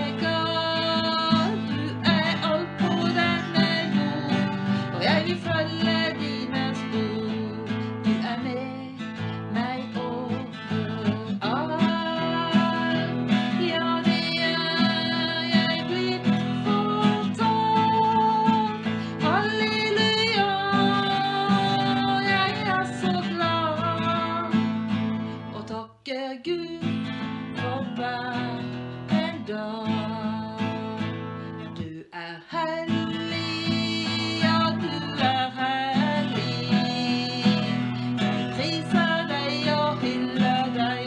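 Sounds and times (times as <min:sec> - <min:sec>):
strummed acoustic guitar: 0:00.0 - 0:25.9, 0:26.6 - 0:41.0.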